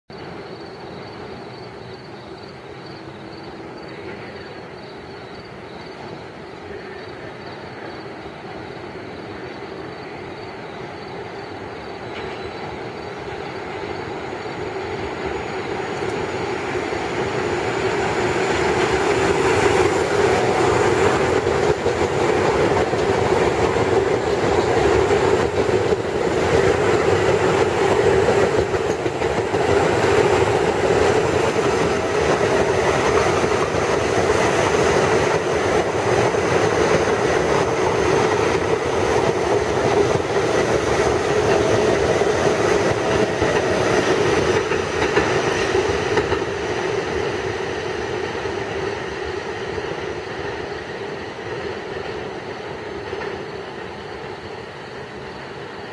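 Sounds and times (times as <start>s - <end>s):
subway train wheels rumbling on rails: 0.1s - 55.9s.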